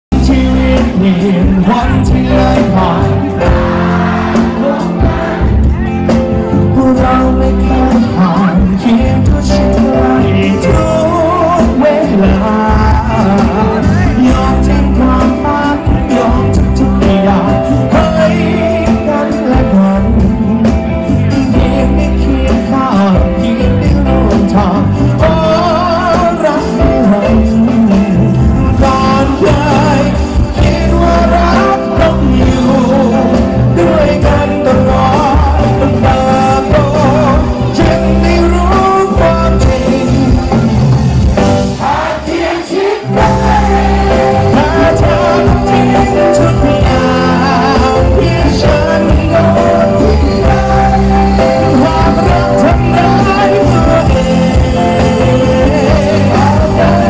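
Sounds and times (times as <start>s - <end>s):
man singing into a microphone: 0.0s - 57.0s
live band playing loud: 0.1s - 57.0s.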